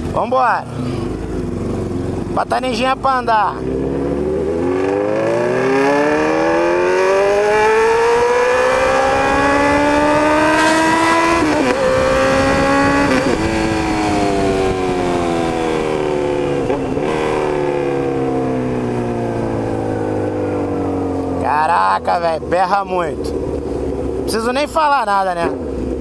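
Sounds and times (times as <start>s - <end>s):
motorcycle engine revving: 0.0s - 24.6s.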